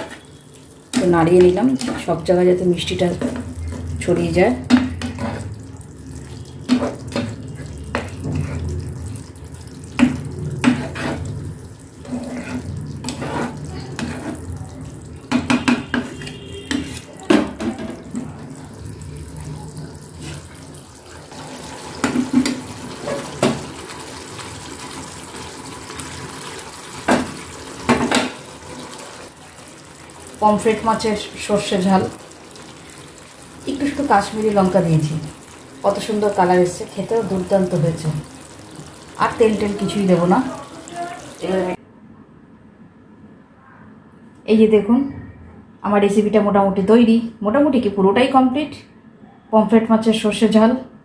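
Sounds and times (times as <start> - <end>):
curry bubbling in a pan: 0.0 - 41.8.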